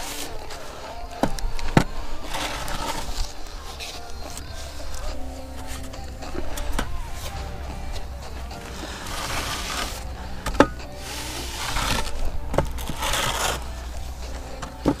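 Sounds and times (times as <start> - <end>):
wooden board scraping sand: 0.0 - 15.0.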